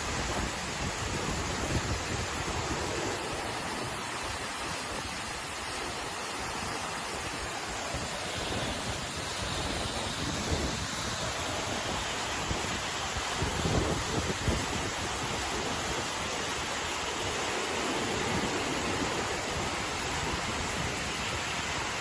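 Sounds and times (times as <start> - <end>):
waterfall rushing: 0.0 - 22.0
wind buffeting microphone: 0.0 - 22.0.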